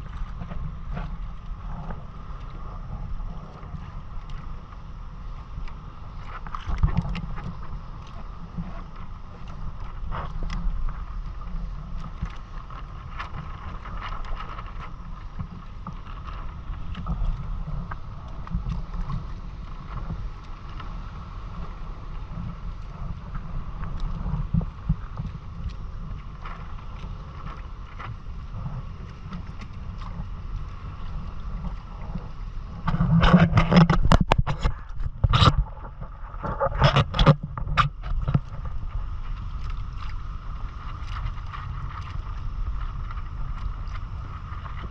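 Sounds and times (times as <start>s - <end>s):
water moving past hull: 0.0s - 44.9s
wind on microphone: 0.0s - 44.9s.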